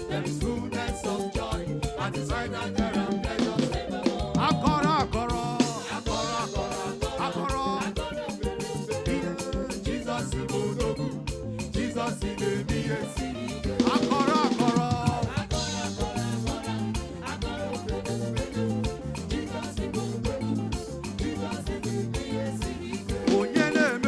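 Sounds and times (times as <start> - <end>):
gospel band with drums and bass: 0.0 - 24.0
person singing: 0.0 - 24.0.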